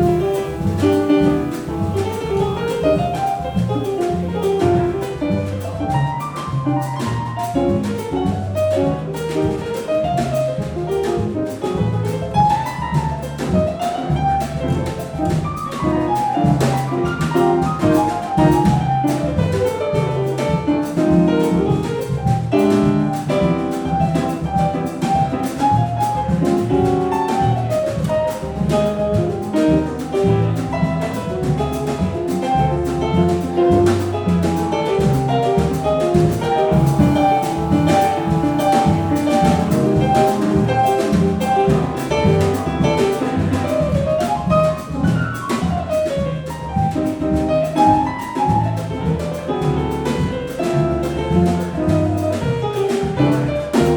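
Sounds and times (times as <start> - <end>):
jazz combo playing: 0.0 - 53.9.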